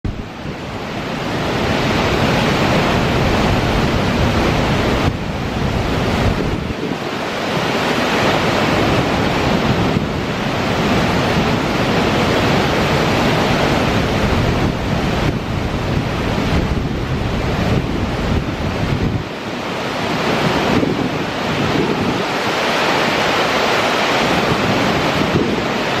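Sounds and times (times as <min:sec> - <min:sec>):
waterfall rushing: 0:00.1 - 0:26.0
wind buffeting microphone: 0:00.1 - 0:26.0.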